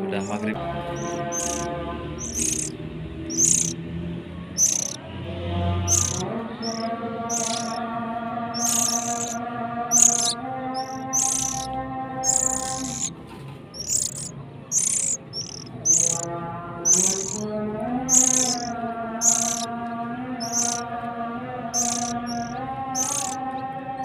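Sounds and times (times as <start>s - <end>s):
birds giving high rasping calls: 0.0s - 3.8s, 4.5s - 5.0s, 5.8s - 7.8s, 8.5s - 17.5s, 18.1s - 19.7s, 20.4s - 20.9s, 21.6s - 23.6s.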